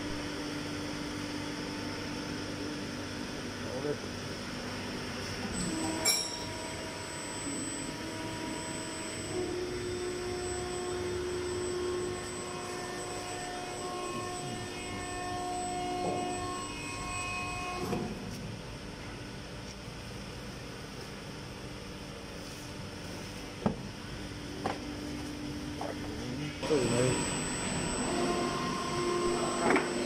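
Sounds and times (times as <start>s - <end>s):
hydraulic pump and motor whine: 0.0s - 30.0s.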